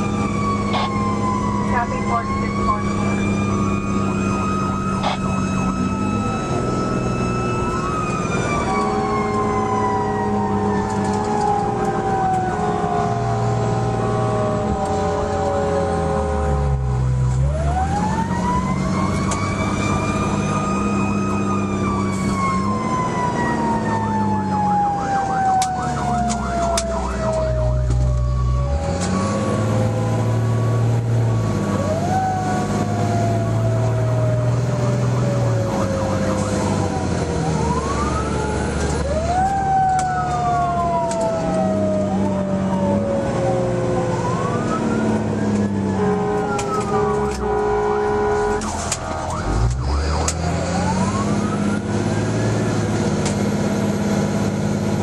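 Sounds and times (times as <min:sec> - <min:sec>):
fire engine siren wailing: 0:00.0 - 0:55.0
truck engine running: 0:00.0 - 0:55.0.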